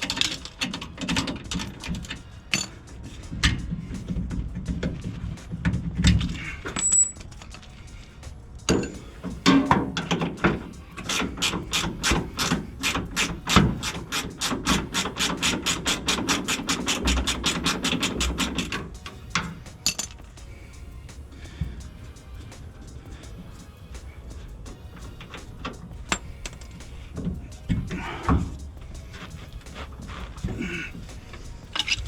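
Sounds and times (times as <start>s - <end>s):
metal tools clanking: 0.0s - 32.0s
ratchet wrench clicking: 0.0s - 32.0s.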